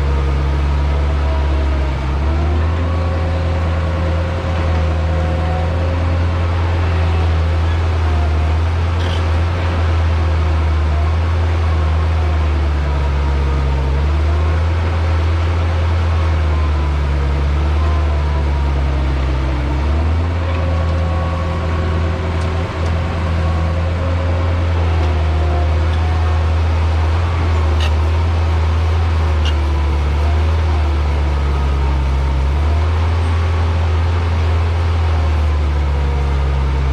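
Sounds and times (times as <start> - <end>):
diesel machine engine drone: 0.0 - 36.9.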